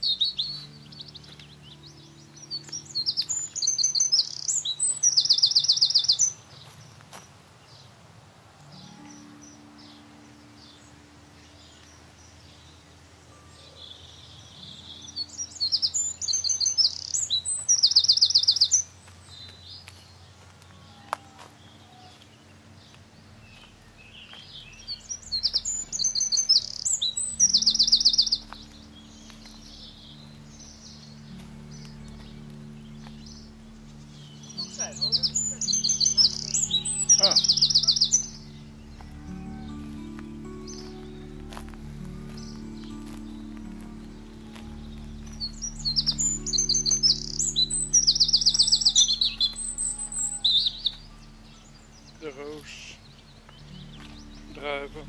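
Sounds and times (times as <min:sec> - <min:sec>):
songbird singing with trill: 0:00.0 - 0:07.9, 0:08.6 - 0:55.0.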